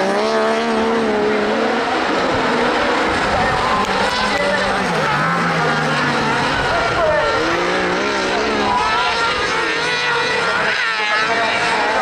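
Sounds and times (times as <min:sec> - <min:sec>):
buggy engines racing: 0:00.0 - 0:12.0.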